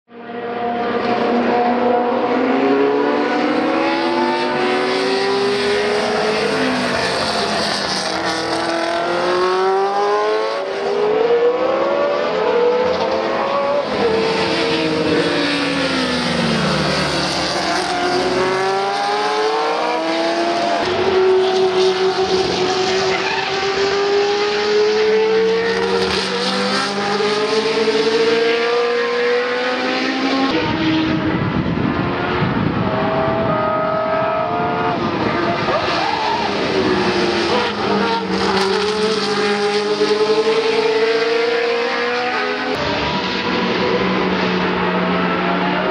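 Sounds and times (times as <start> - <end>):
racing car engines: 0.1 - 45.9.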